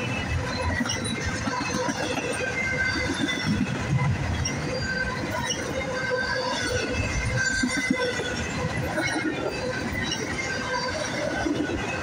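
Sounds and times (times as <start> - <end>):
high-pitched wheel squeals: 0.0 - 12.0
steel wheels rumbling on rail: 0.0 - 12.0.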